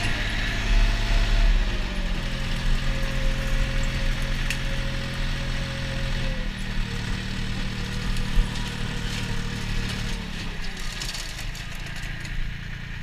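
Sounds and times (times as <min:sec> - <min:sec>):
flail mower cutting vegetation: 0:00.0 - 0:13.0
tractor engine running: 0:00.0 - 0:13.0.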